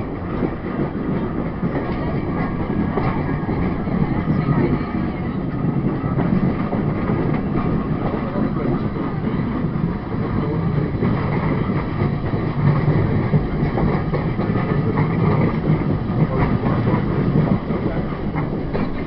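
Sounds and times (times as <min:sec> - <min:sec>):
clickety-clack of wheels: 0:00.0 - 0:19.0
train wheels rumbling on rail: 0:00.0 - 0:19.0.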